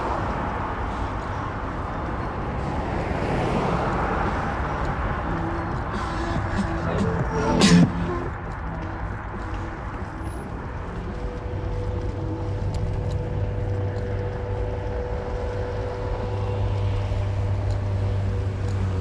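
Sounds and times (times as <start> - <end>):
car engine drone: 0.0 - 19.0
road and tyre noise: 0.0 - 19.0.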